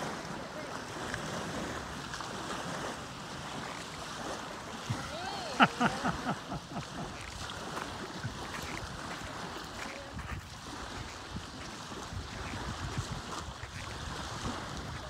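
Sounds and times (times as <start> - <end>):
surf: 0.0 - 15.0
wind: 0.0 - 15.0.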